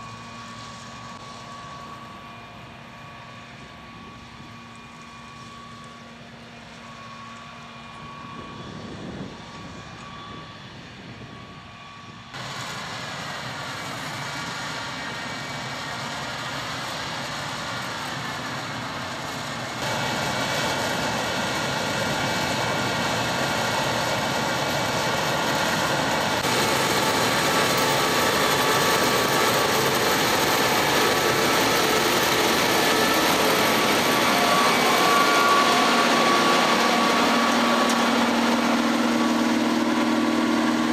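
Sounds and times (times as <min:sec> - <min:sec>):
faint machinery whine: 0:00.0 - 0:40.9
harvester engine drone: 0:00.0 - 0:40.9.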